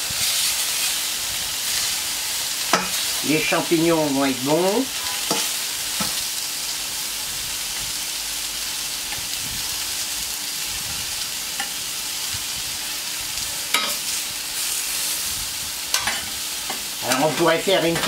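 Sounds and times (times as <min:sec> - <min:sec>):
vegetables sizzling on a griddle: 0:00.0 - 0:18.0.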